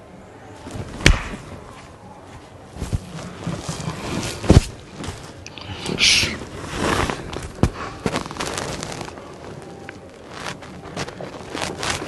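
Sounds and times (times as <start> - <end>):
rustling on leather sofa: 0.6 - 12.0.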